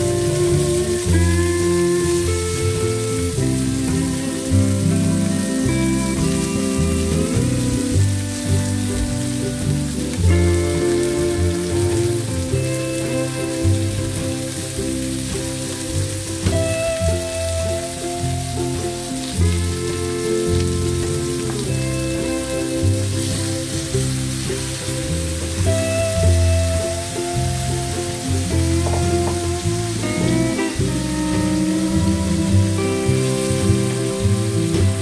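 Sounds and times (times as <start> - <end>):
background music with held chords: 0.0 - 35.0
meat and onions sizzling: 0.0 - 35.0.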